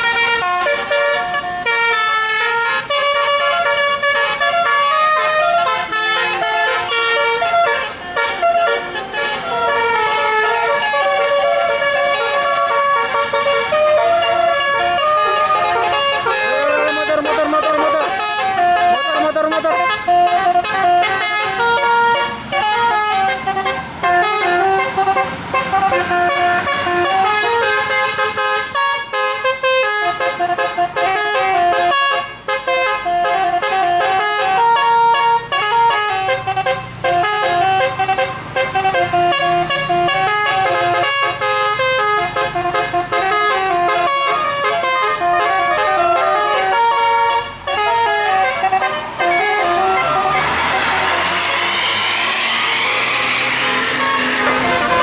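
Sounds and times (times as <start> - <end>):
bus musical horn melody: 0.0 - 55.0.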